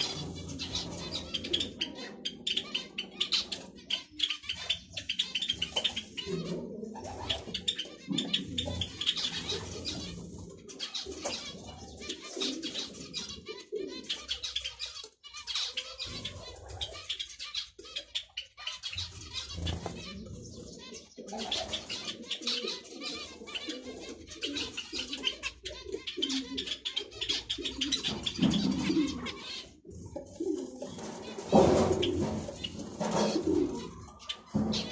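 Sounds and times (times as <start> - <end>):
finches chattering: 0.0 - 29.9.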